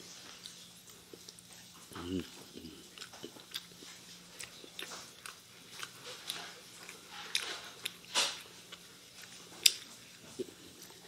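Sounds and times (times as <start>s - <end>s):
person chewing with wet smacks: 0.1s - 11.0s.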